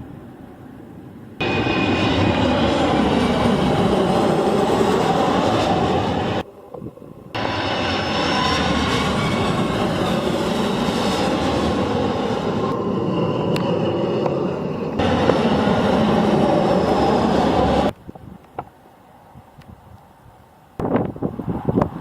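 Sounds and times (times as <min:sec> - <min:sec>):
jet engine roar: 0:00.1 - 0:18.0.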